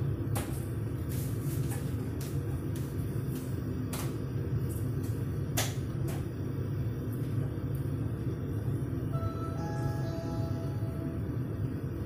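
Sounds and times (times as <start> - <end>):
kitchen fan humming: 0.0 - 12.0.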